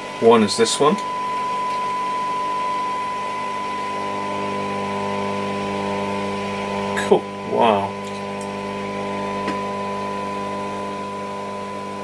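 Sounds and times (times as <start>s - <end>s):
radio test tone: 0.0s - 11.6s
hum and hiss: 0.0s - 12.0s.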